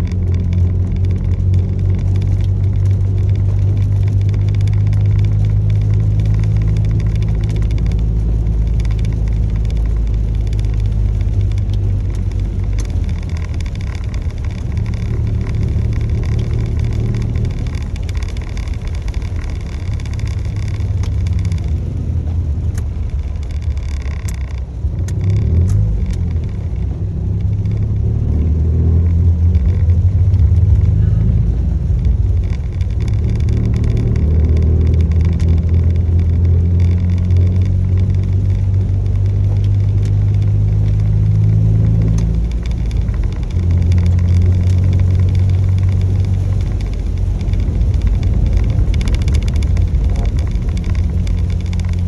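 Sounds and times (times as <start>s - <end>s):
low engine drone: 0.0s - 52.0s
road noise: 0.0s - 52.0s.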